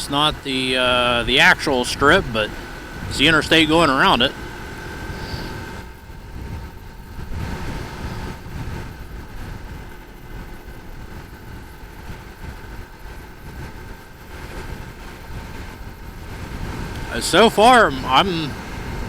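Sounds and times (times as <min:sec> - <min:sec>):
wind rumble: 0:00.0 - 0:17.8
motorcycle engine running: 0:00.0 - 0:19.0.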